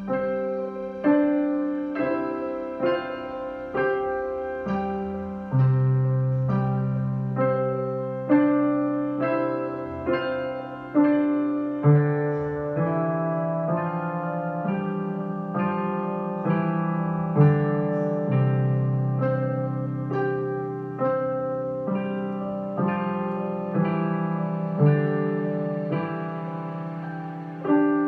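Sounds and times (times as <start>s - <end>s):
slow gentle piano piece: 0.0s - 28.0s.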